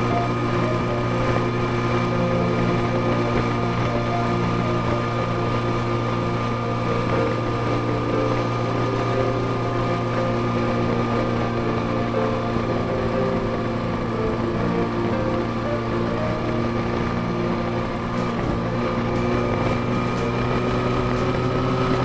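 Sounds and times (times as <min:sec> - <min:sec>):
motorcycle engine droning: 0:00.0 - 0:22.0
riding noise: 0:00.0 - 0:22.0.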